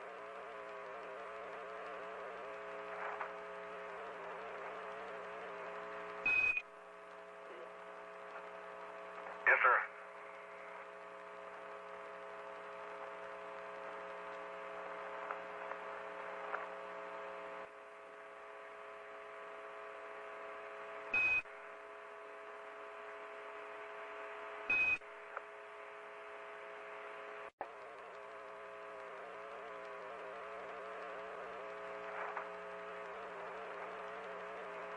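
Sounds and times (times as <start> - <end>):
steady droning hum: 0.0 - 34.9.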